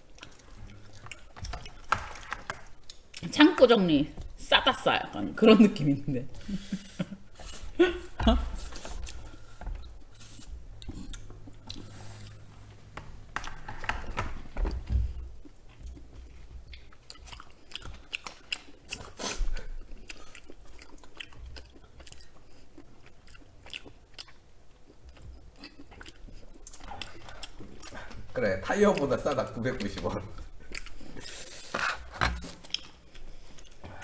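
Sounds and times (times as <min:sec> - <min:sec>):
people chewing noodles: 0:00.0 - 0:03.2, 0:06.4 - 0:14.2, 0:15.4 - 0:34.0.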